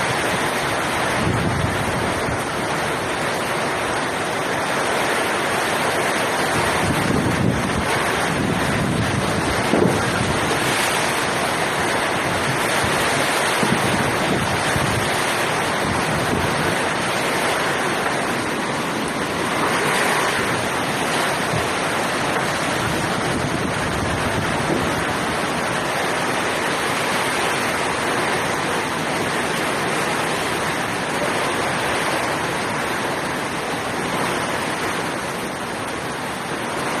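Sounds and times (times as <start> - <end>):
heavy rain: 0.0 - 37.0
wind buffeting microphone: 0.0 - 37.0.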